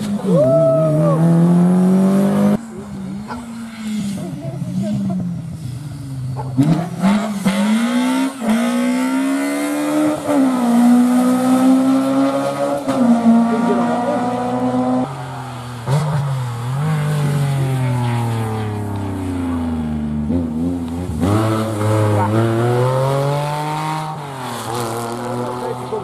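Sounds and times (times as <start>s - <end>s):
rally car engine accelerating: 0.0s - 26.0s.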